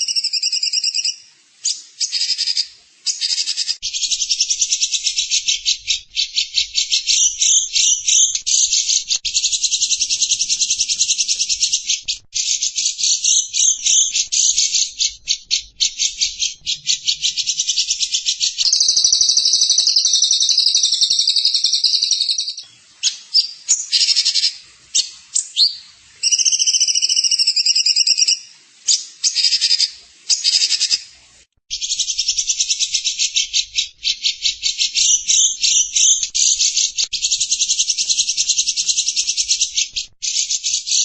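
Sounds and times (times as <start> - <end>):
small songbird singing: 0.0 - 41.0.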